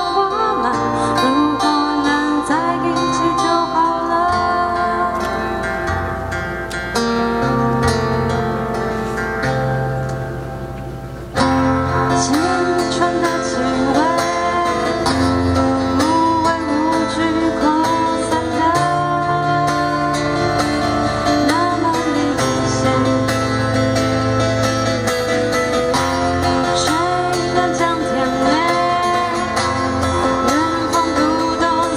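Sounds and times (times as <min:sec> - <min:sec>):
acoustic guitar: 0:00.0 - 0:31.9
lead melody line: 0:00.0 - 0:31.9.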